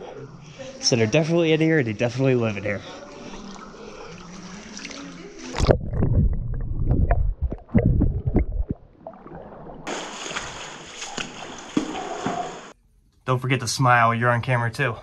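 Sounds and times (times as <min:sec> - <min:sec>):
water splashing and sloshing: 0:00.0 - 0:12.8.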